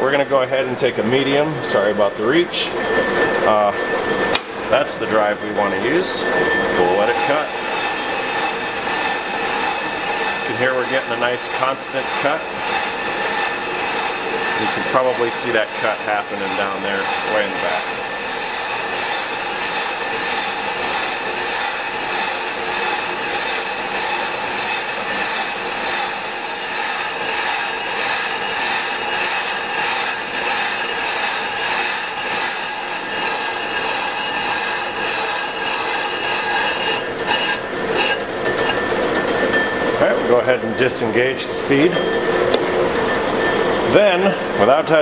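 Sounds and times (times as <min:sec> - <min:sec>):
brake lathe howling: 0:00.0 - 0:45.0.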